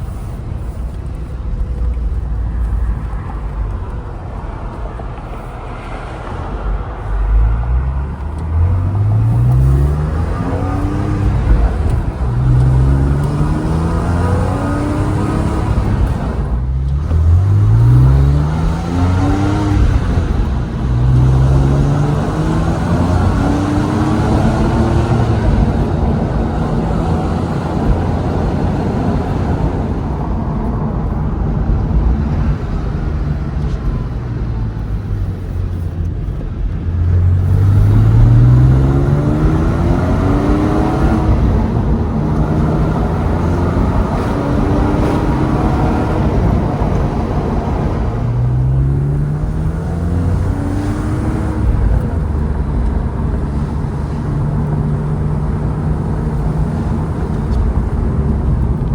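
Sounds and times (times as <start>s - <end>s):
car engine revving: 0.0s - 58.9s
road noise rumble: 0.0s - 58.9s.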